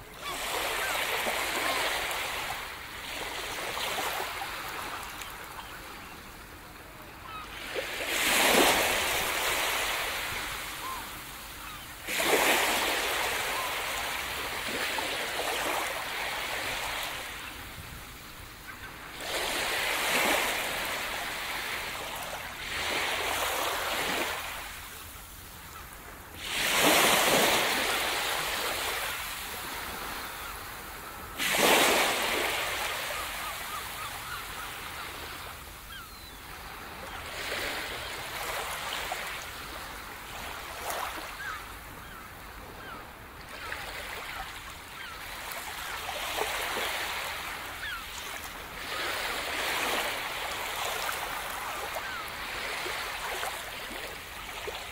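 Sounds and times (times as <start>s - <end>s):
small waves breaking on sand: 0.0s - 54.9s.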